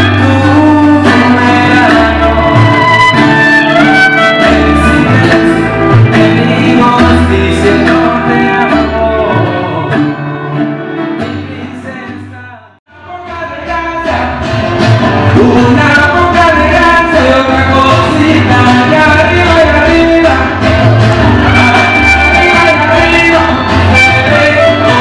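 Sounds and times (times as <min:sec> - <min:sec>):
music with singing: 0:00.0 - 0:25.0.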